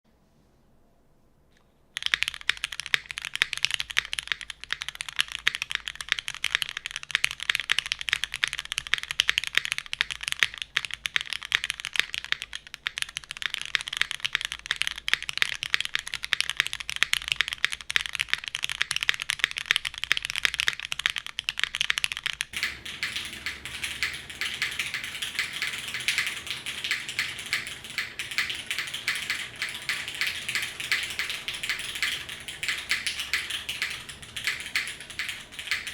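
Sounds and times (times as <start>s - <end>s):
mechanical keyboard typing: 2.0s - 35.9s.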